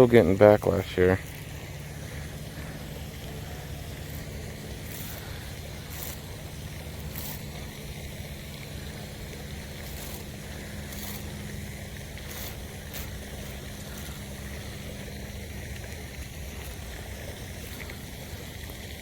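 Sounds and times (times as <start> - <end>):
low mechanical hum: 0.0 - 19.0
high hissing sounds: 0.2 - 19.0.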